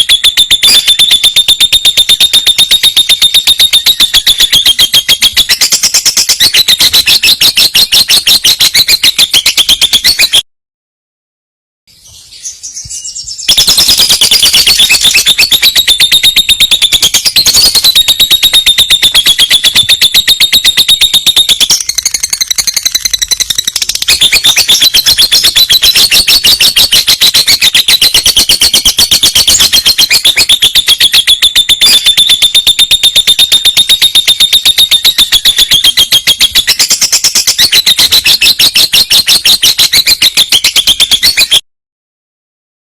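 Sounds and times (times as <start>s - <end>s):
lovebird chattering: 3.7s - 10.4s, 12.7s - 41.6s.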